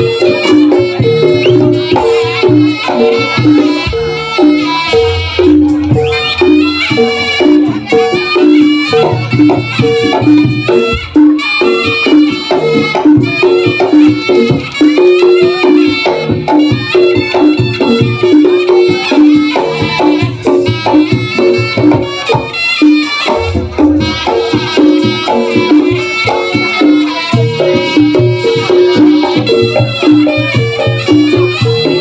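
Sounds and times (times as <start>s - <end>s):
hand drums: 0.0s - 32.0s
shrill reed shawm melody: 0.0s - 32.0s.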